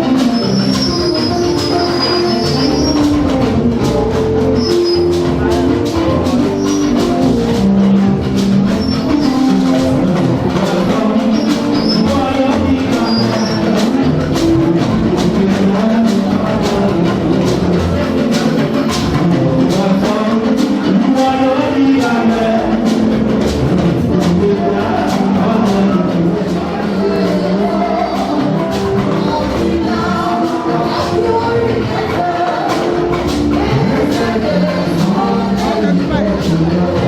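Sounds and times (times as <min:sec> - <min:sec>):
drums beating: 0:00.0 - 0:37.0
people singing: 0:00.0 - 0:37.0.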